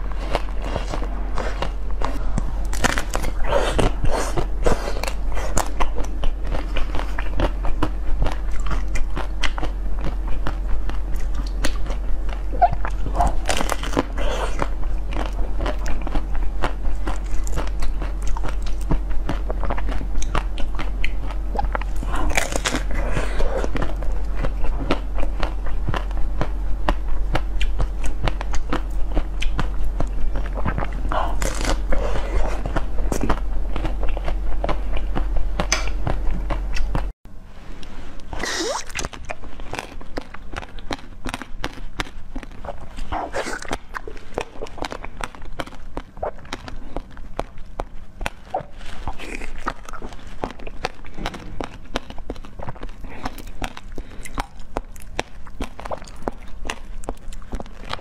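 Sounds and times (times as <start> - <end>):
crunching frozen ice treats: 0.0 - 26.2, 30.3 - 35.1, 38.4 - 58.0
steady low hum: 0.0 - 58.0.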